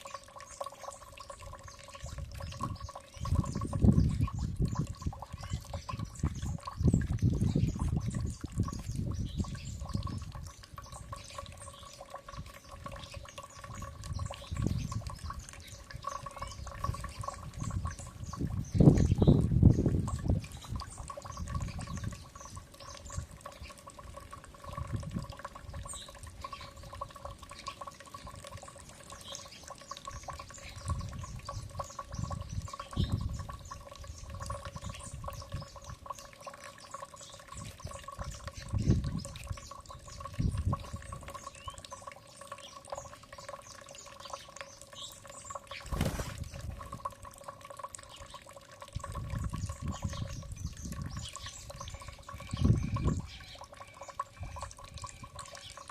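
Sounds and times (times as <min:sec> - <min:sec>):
small birds chirping: 0:00.0 - 0:25.0, 0:25.6 - 0:46.8, 0:48.0 - 0:48.6, 0:49.3 - 0:55.9.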